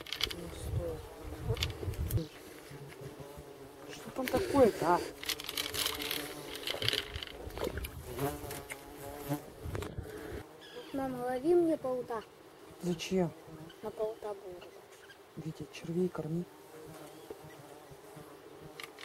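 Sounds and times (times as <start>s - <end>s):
flying insects buzzing: 0.0s - 19.0s.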